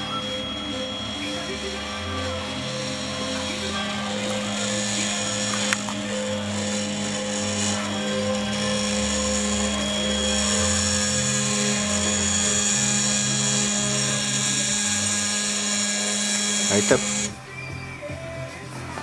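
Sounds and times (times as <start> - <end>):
stepper motors whining: 0.0 - 18.3
low hum shifting in pitch: 0.0 - 19.0.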